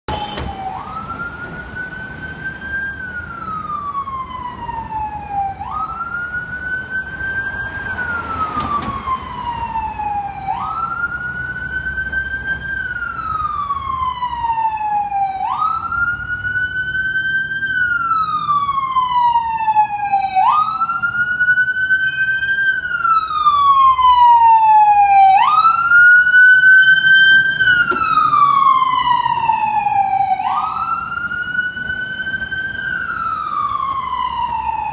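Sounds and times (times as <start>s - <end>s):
ambulance siren wailing: 0.1s - 34.9s.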